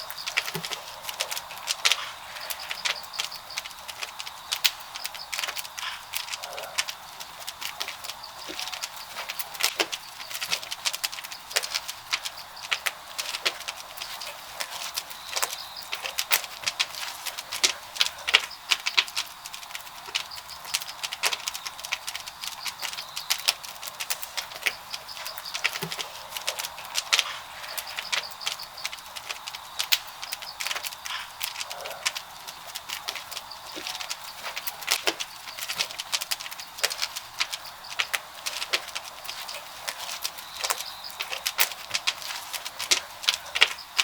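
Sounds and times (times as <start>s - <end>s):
wood crackling and popping: 0.0s - 44.0s.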